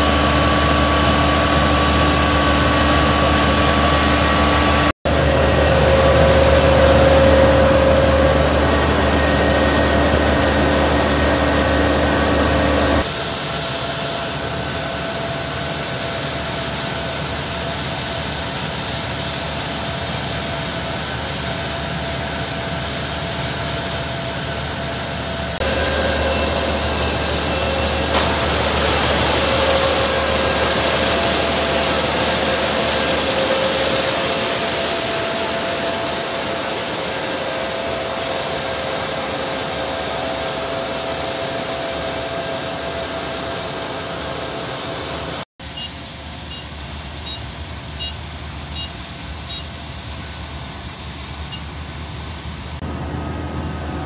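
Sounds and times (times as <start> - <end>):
combine harvester machinery drone: 0.0 - 54.0.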